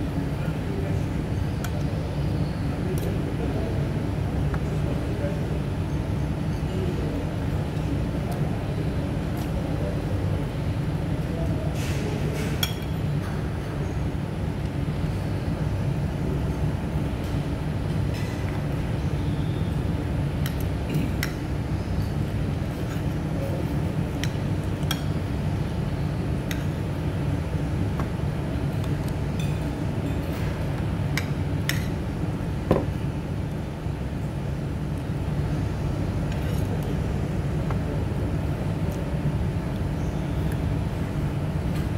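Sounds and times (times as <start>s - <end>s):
low room hum: 0.0s - 41.9s.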